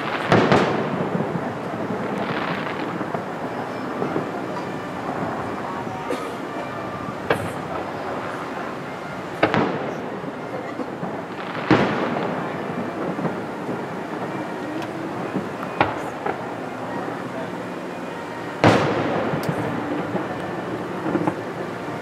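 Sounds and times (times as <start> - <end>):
background noise: 0.0 - 22.0
fireworks bursting: 0.0 - 22.0.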